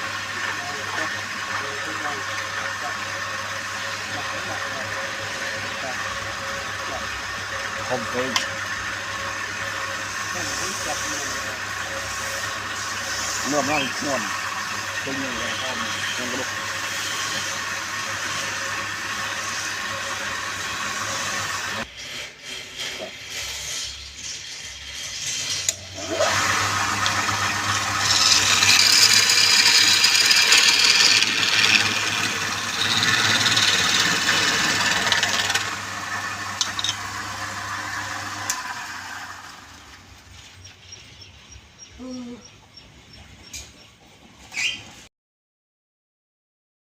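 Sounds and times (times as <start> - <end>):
wood lathe motor hum: 0.0 - 40.3
tool hissing on spinning wood: 0.0 - 40.5.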